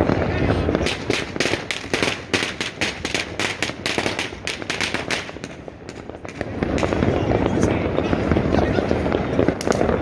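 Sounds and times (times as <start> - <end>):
firecrackers cracking: 0.0 - 10.0.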